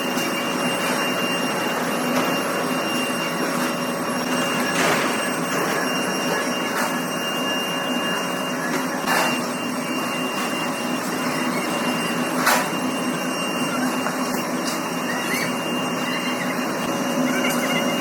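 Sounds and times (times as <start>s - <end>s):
heavy workshop machinery running: 0.0s - 18.0s.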